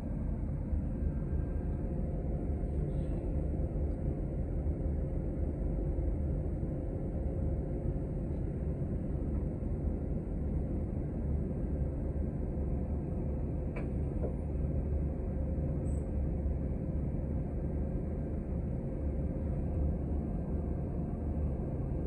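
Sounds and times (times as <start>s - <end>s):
bus engine and road rumble: 0.0s - 22.0s
faint steady hum: 0.0s - 22.0s.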